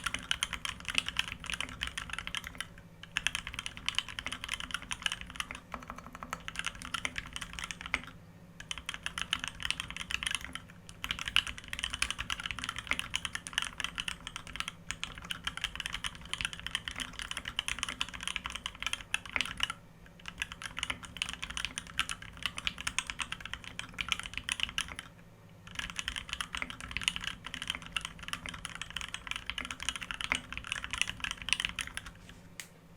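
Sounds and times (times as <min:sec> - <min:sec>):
fast mechanical keyboard typing: 0:00.0 - 0:32.3.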